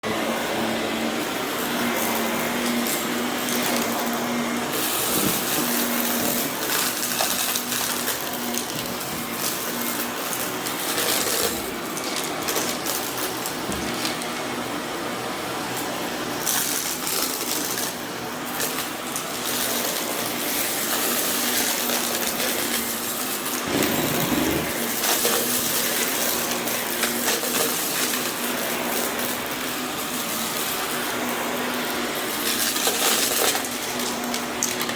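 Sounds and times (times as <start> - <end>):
vacuum cleaner on carpet: 0.0 - 34.9
debris rattling in vacuum: 1.7 - 14.4, 16.4 - 34.9.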